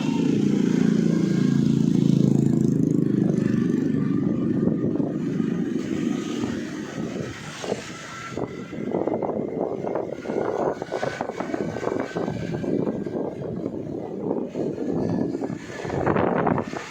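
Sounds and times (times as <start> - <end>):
vehicle running noise: 0.0 - 16.9
wind rumbling on microphone: 0.0 - 16.9.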